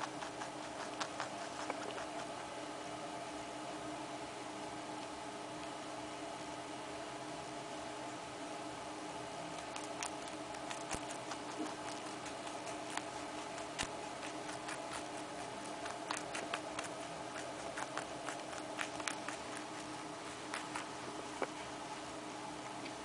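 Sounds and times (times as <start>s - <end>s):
rabbit nibbling carrot: 0.0s - 3.9s, 8.0s - 23.0s
background hum: 0.0s - 23.0s.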